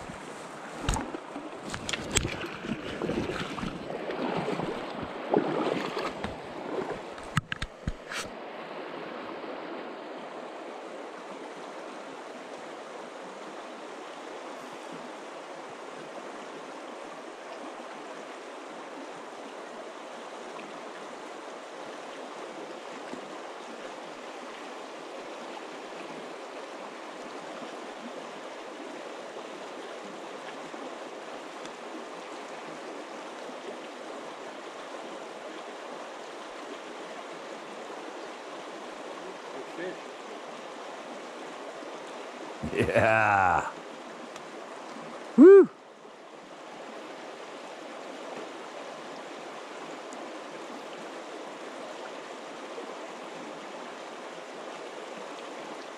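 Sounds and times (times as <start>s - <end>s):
river water rushing over stones: 0.0s - 55.9s.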